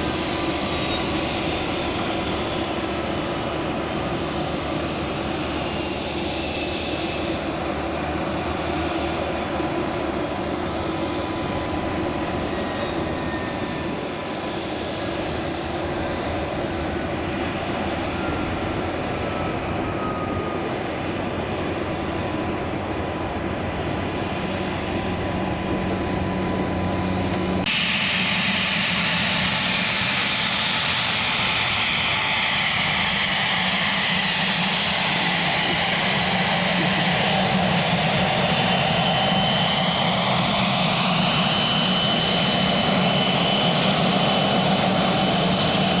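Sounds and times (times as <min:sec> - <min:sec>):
airplane engines droning: 0:00.0 - 0:46.0
hissing engine with high whine: 0:00.0 - 0:46.0.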